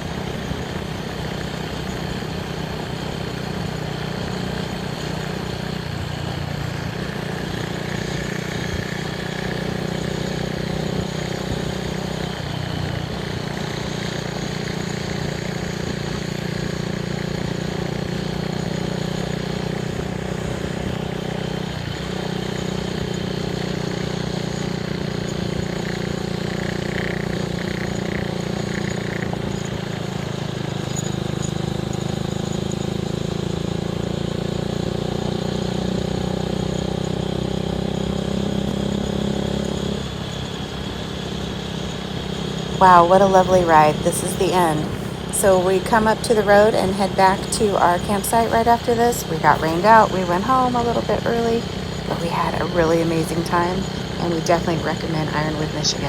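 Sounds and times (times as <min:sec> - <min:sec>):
motorcycle engine droning: 0:00.0 - 0:56.0.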